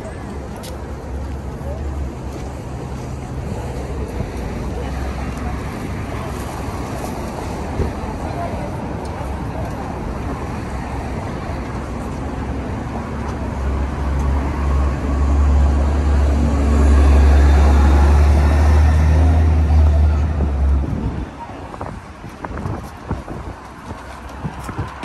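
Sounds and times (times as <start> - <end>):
city street traffic: 0.0 - 25.0
heavy vehicle engine rumble: 0.0 - 25.0.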